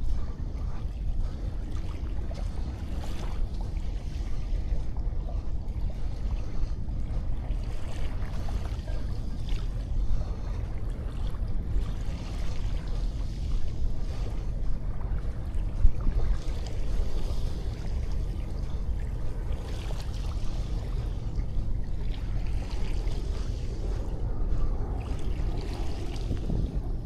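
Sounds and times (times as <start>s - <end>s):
sea waves washing onto beach: 0.0s - 27.0s.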